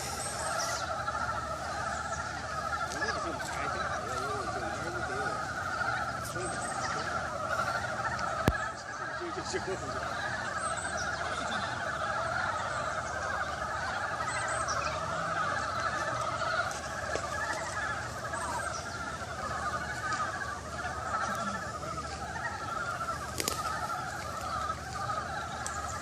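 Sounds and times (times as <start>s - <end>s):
chorus of frogs trilling: 0.0s - 26.0s.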